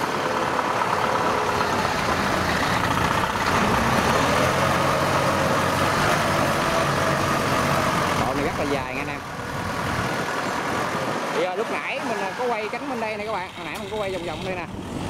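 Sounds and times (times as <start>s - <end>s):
tracked vehicle engine running: 0.0s - 15.0s.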